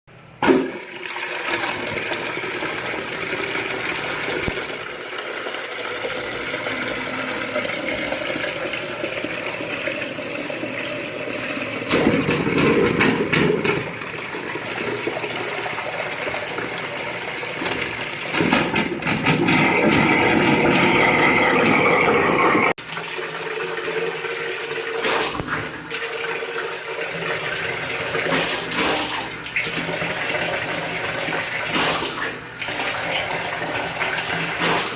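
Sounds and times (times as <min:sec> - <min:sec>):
water rushing from pipe: 0:00.4 - 0:34.9.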